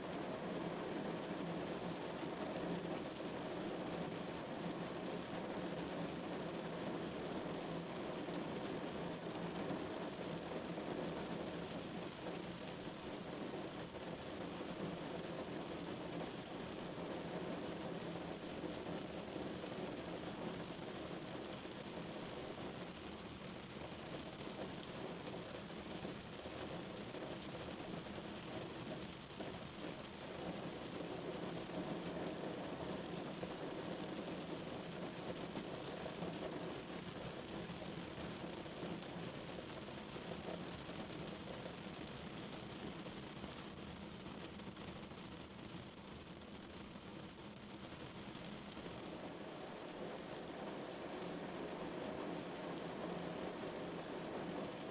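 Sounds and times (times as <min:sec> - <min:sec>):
rain drumming on car body: 0:00.1 - 0:54.9.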